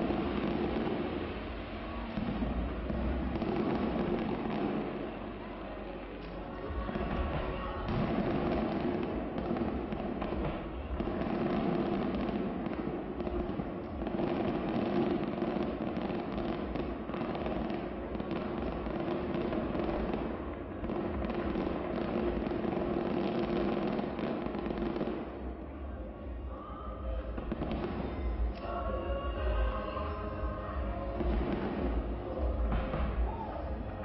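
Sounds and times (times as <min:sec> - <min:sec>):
distant fireworks bursting and crackling: 0:00.0 - 0:26.5, 0:27.1 - 0:29.7, 0:30.3 - 0:34.0.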